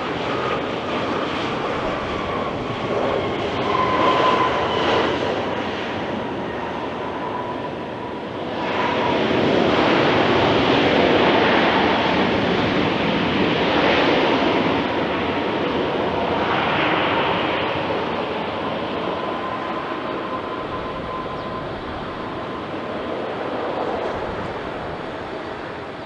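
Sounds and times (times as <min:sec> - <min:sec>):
jet engines passing: 0:00.0 - 0:26.0.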